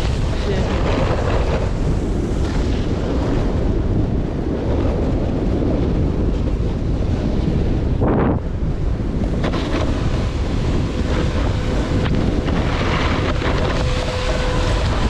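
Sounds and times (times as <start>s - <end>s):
snowboard sliding on snow: 0.0s - 15.0s
wind buffeting microphone: 0.0s - 15.0s.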